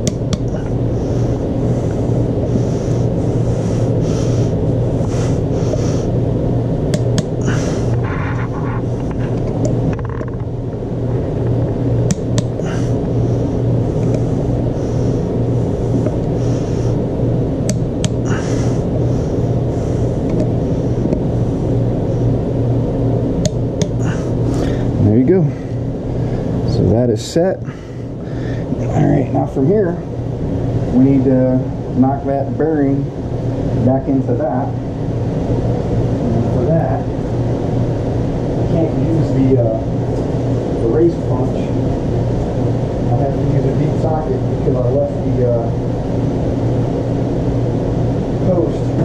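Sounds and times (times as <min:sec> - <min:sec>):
low rumbling hum: 0:00.0 - 0:49.0.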